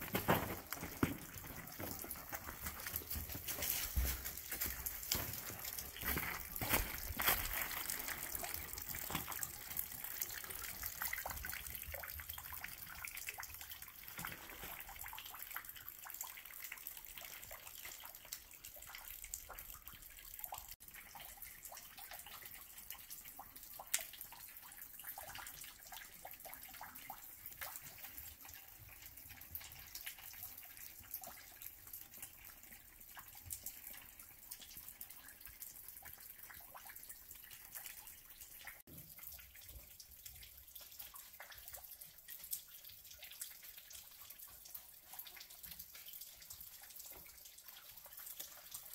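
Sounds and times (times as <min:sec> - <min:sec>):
stream trickling over rocks: 0:00.0 - 0:48.9.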